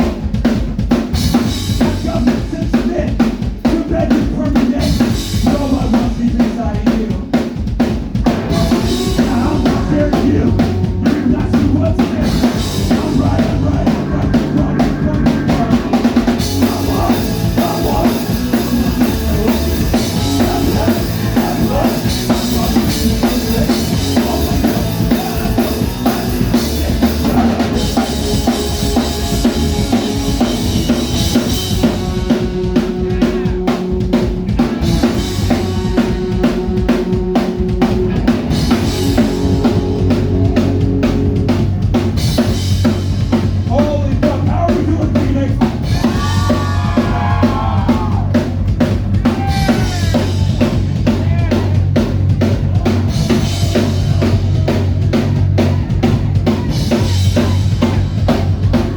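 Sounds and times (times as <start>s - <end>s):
drum kit beat: 0.0s - 58.9s
live band playing: 0.0s - 58.9s.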